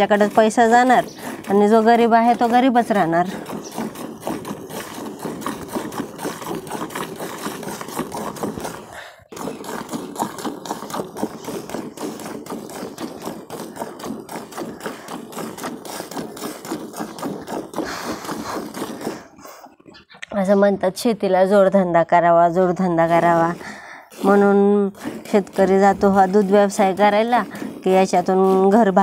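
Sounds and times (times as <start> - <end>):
milk squirting into metal pail: 0.0 - 19.9, 23.0 - 29.0.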